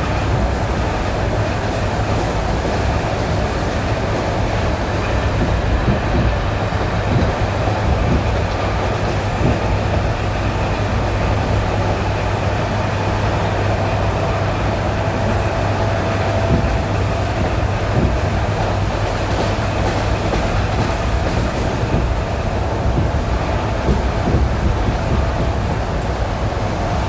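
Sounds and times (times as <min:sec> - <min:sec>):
train rumble and hum: 0:00.0 - 0:27.0
wheels clacking over rail joints: 0:00.0 - 0:27.0.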